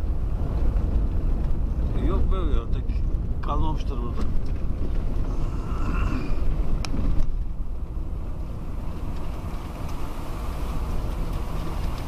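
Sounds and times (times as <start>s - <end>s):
vehicle rumbling on gravel: 0.0s - 12.0s.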